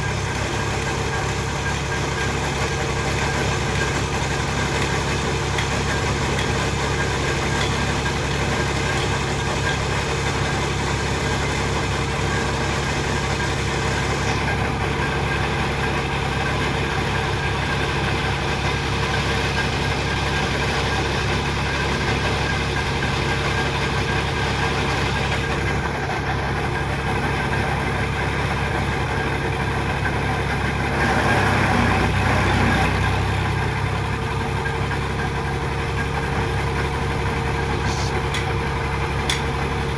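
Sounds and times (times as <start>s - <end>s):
piling equipment engine running: 0.0s - 39.9s.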